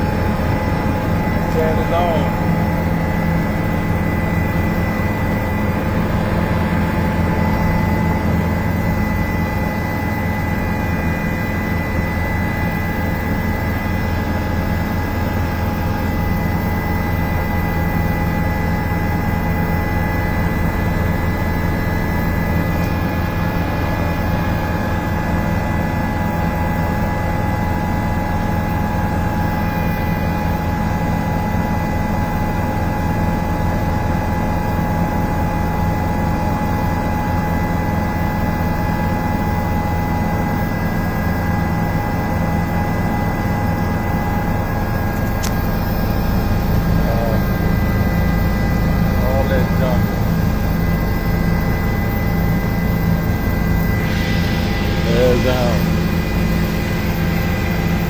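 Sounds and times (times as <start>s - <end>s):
helicopter engine and rotor drone: 0.0s - 58.0s
steady whining tones: 0.0s - 58.0s.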